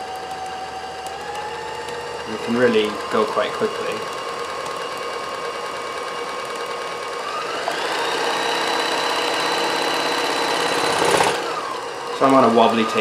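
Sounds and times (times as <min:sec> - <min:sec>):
sewing machine motor hum: 0:00.0 - 0:13.0.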